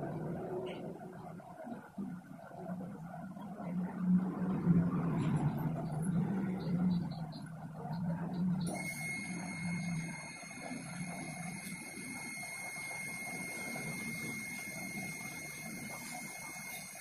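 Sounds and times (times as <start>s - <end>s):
high-pitched electronic whine: 0.0s - 17.0s.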